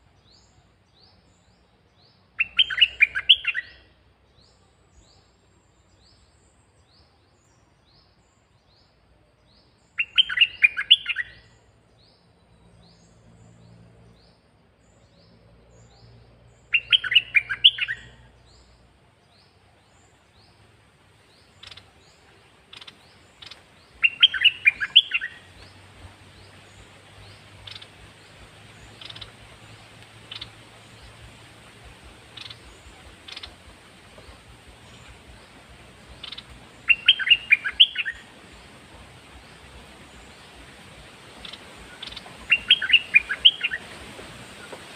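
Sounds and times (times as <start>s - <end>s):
bird singing warbled phrases: 0.2s - 20.6s, 21.2s - 44.9s.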